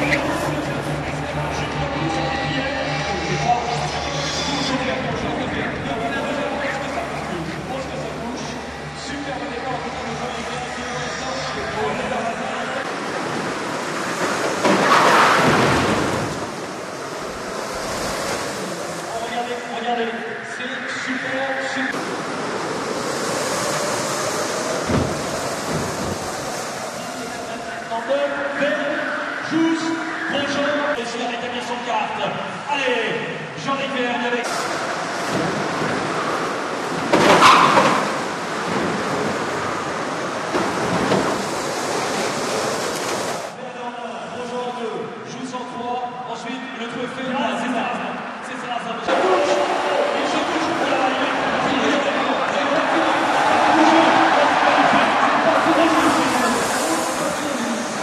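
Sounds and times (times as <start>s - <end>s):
karts racing roar: 0.0s - 31.4s, 34.4s - 43.6s, 49.1s - 58.0s
indoor arena crowd din: 0.0s - 58.0s.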